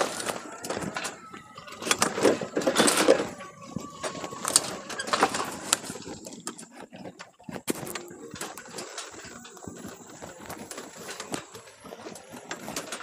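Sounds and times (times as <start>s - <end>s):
cart rattling over rough ground: 0.0s - 13.0s.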